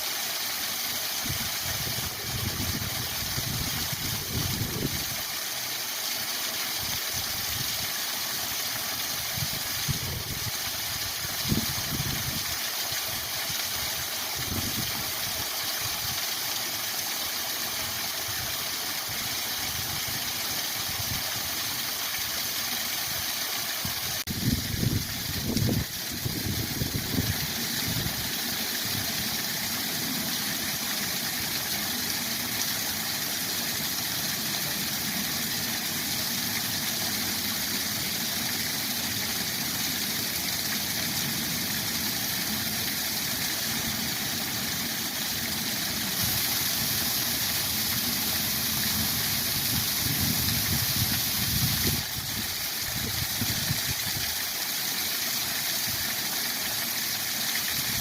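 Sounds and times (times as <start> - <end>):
waterfall rushing: 9.8 - 58.0.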